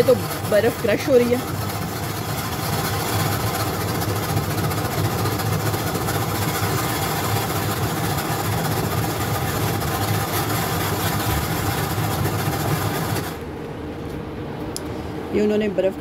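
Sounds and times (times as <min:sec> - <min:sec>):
ice shaver motor humming: 0:00.0 - 0:13.4.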